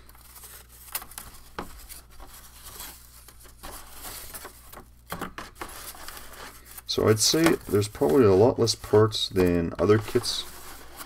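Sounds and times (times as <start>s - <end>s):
low steady hum: 0.0s - 11.0s
wood sheets sliding and rustling: 0.0s - 11.0s.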